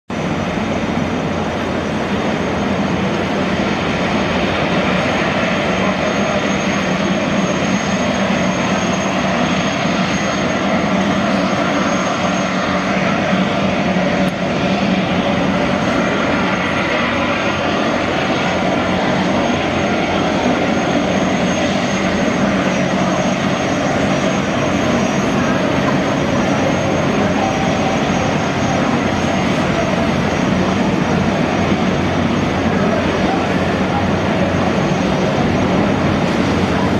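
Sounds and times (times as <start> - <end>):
gas turbine jet rush: 0.1 - 36.9.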